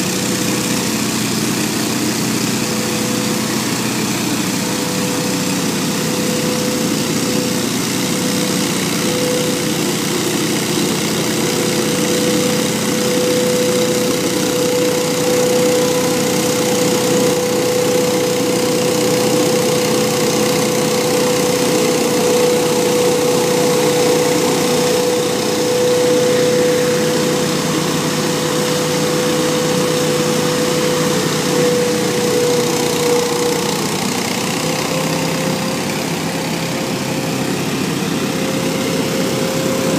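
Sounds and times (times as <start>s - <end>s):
leaf blower engine drone: 0.0s - 39.9s.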